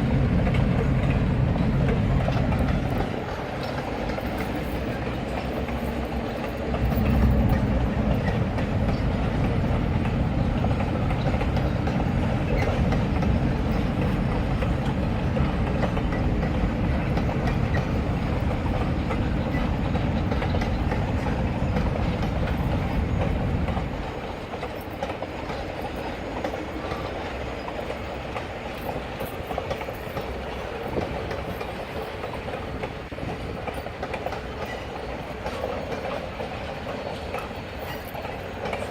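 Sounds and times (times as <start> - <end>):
train rolling on rails: 0.0 - 38.9.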